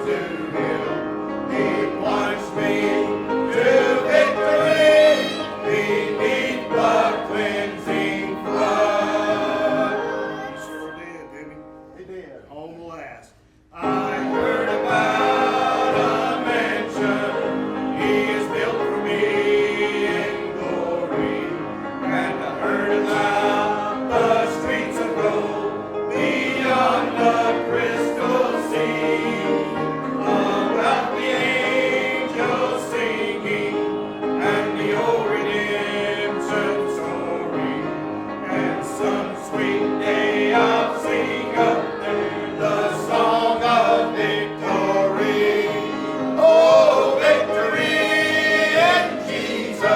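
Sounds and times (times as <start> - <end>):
congregation singing a hymn: 0.0 - 11.9, 13.7 - 49.9.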